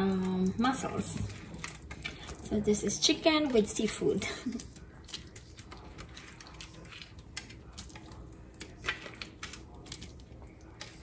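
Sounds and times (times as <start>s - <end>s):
broth simmering: 0.0s - 11.0s.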